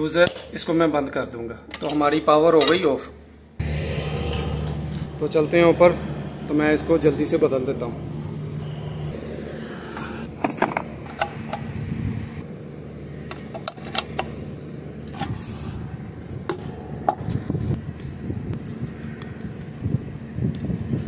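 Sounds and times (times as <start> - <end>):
low steady rumble: 3.2 - 20.4.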